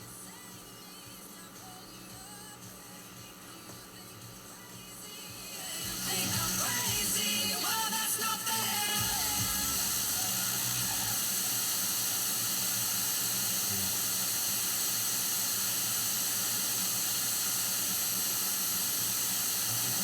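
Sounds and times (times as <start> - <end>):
white noise hiss: 0.0 - 20.0.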